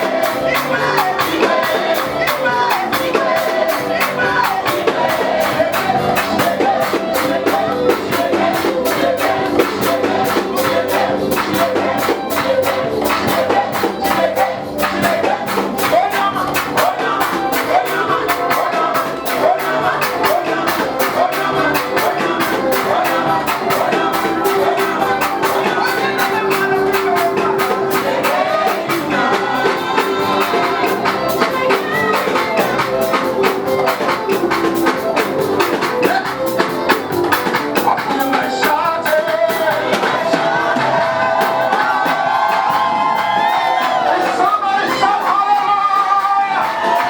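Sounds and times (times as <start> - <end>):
gospel singing over a band: 0.0 - 47.0
tambourine-like percussion: 0.0 - 47.0.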